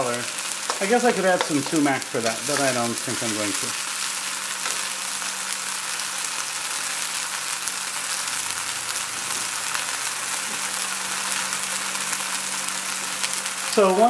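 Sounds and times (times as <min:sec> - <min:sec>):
berries sizzling in hot fat: 0:00.0 - 0:14.0.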